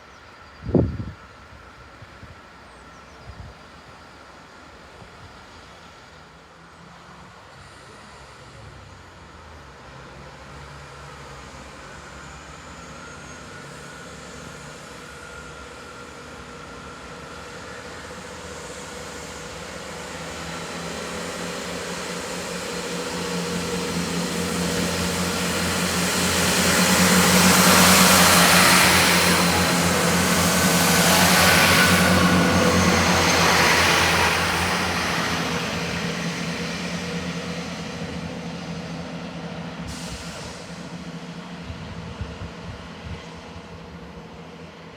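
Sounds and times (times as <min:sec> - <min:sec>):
train engine and wheels passing: 0:00.0 - 0:44.9.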